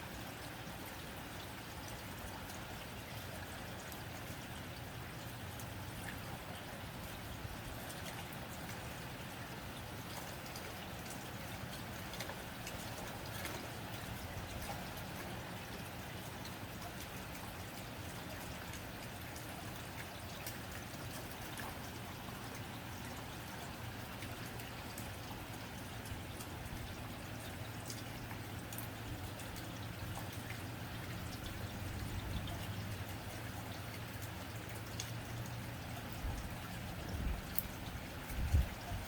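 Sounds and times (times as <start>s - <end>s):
rain on a tin roof: 0.0s - 39.0s
low steady rumble: 1.1s - 39.0s.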